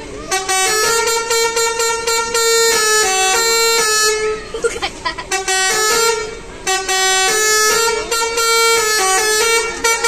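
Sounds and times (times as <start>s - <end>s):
multi-tone air horn tune: 0.2s - 4.4s, 5.3s - 10.0s.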